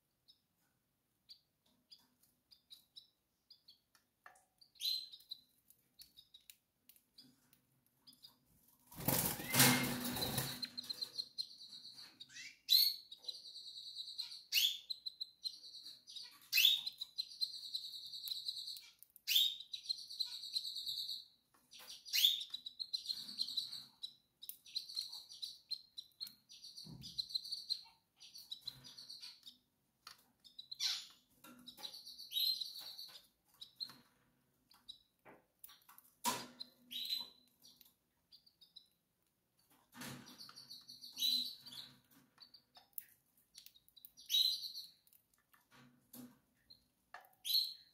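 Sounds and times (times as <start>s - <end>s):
canary chirps: 0.0s - 47.9s.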